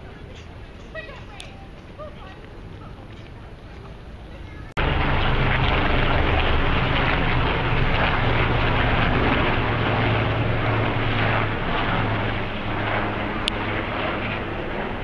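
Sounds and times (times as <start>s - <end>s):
outdoor rumble: 0.0s - 15.0s.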